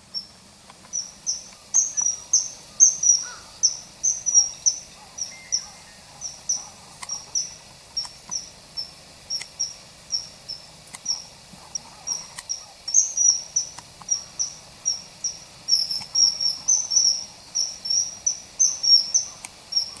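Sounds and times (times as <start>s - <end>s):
kingfisher calling shrill notes: 0.9s - 11.2s, 12.1s - 20.0s.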